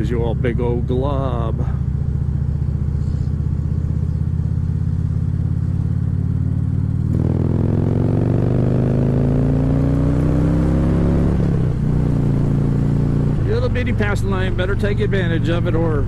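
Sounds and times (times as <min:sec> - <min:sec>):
motorcycle engine accelerating: 0:00.0 - 0:16.0
road and wind noise: 0:00.0 - 0:16.0.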